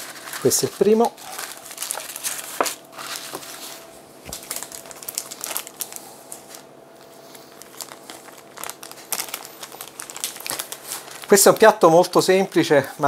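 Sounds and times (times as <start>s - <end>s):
parchment and plastic gloves crinkling: 0.0s - 13.0s.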